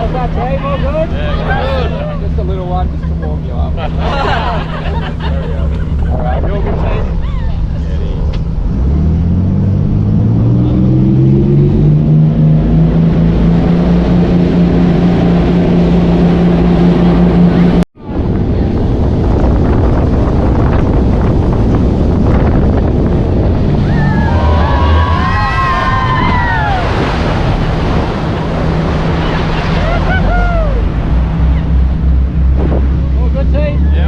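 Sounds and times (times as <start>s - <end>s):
jet ski engine: 0.0s - 34.0s
water noise: 0.0s - 34.0s
wind buffeting microphone: 2.0s - 34.0s.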